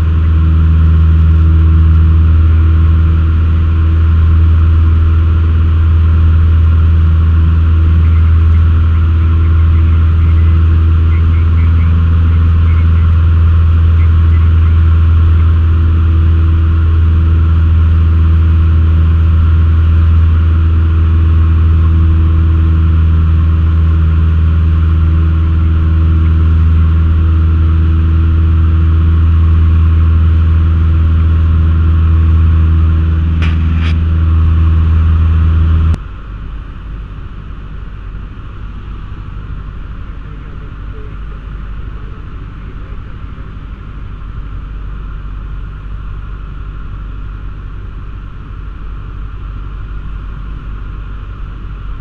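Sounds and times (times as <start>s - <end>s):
airplane engine and propeller droning: 0.0s - 52.0s
rushing engine and wind noise: 0.0s - 52.0s.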